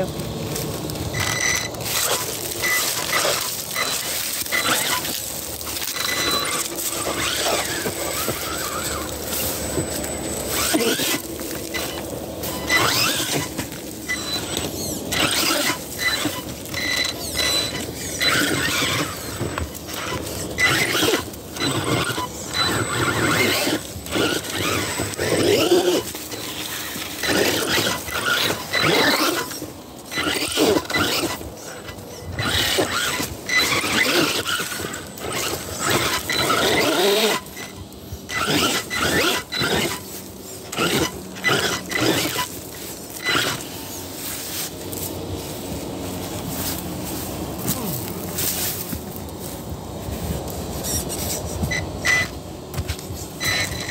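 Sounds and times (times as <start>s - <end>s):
toy car motor whining: 0.0s - 45.1s, 50.7s - 53.9s
tyres scrabbling over rock: 0.0s - 53.9s.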